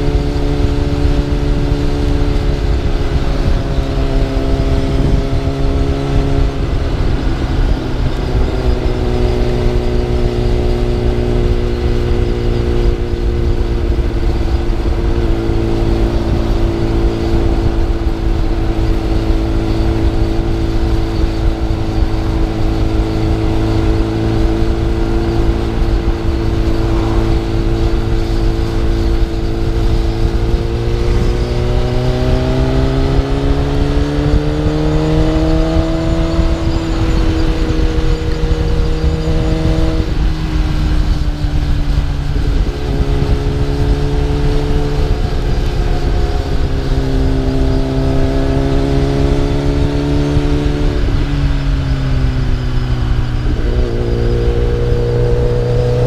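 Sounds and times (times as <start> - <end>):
low wind rumble: 0.0 - 56.0
motorbike engine running: 0.0 - 56.0.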